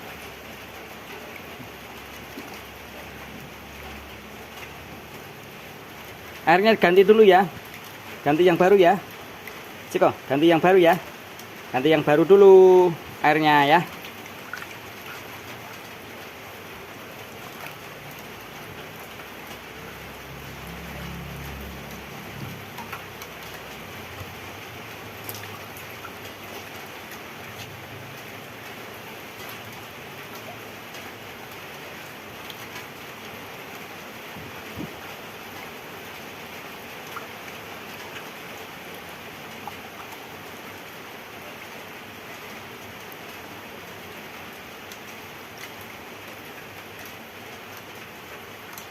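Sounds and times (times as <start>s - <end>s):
running water hiss: 0.0s - 48.9s
faint drips: 0.2s - 48.9s.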